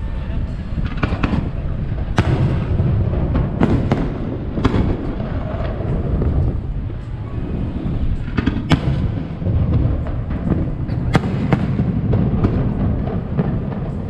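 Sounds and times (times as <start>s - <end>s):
low rumble of booms: 0.0s - 14.0s.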